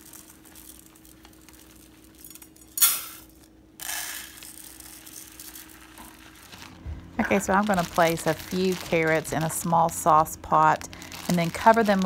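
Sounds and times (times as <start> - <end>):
rice pouring into plastic cup: 0.0 - 2.3, 3.8 - 12.0
plastic bag crinkling: 0.0 - 12.0.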